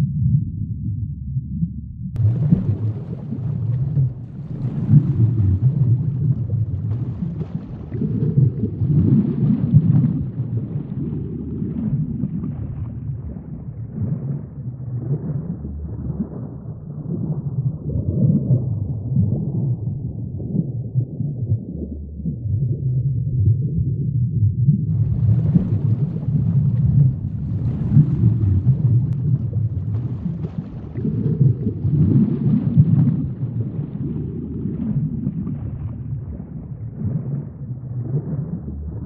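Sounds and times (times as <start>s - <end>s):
sea rumbling: 2.1s - 23.8s, 24.7s - 39.0s.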